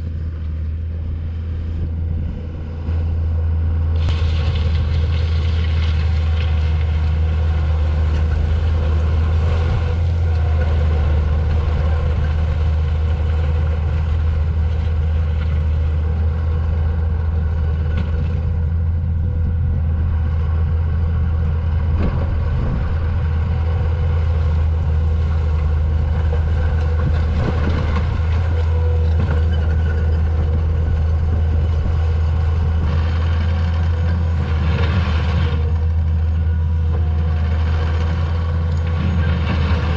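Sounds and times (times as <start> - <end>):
track loader diesel engine running: 0.0 - 39.9.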